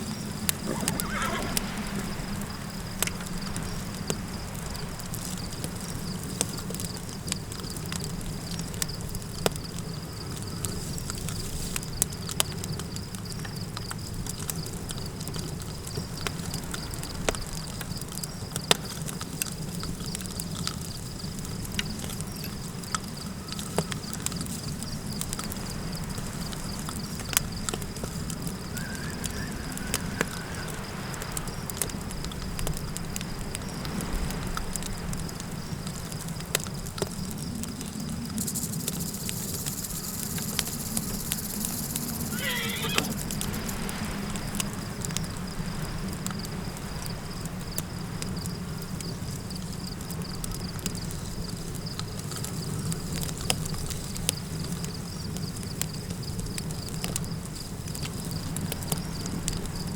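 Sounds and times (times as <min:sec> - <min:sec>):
campfire crackling and popping: 0:00.0 - 0:59.9
wind: 0:00.0 - 0:59.9.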